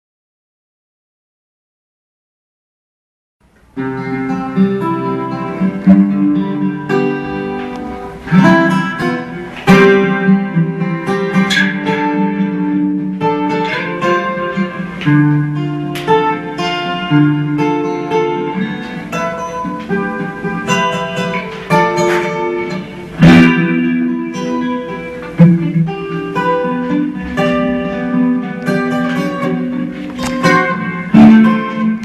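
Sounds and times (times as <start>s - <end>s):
acoustic guitar playing: 3.4s - 32.0s.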